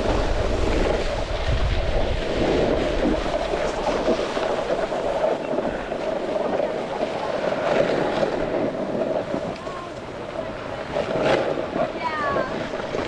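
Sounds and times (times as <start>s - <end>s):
snowboard sliding over snow: 0.0s - 13.0s
wind buffeting microphone: 0.0s - 13.0s.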